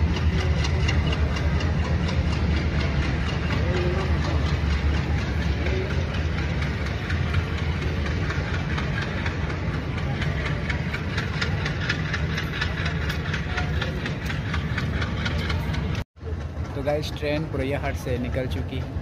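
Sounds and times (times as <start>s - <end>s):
train coaches rumbling: 0.0s - 19.0s
train wheel clicks on track: 0.0s - 19.0s.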